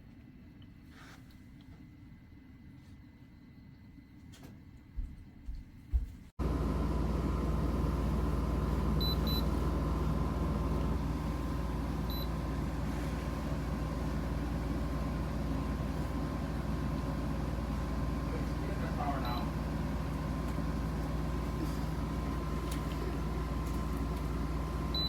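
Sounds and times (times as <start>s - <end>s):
low rumble and hum: 0.0s - 25.0s.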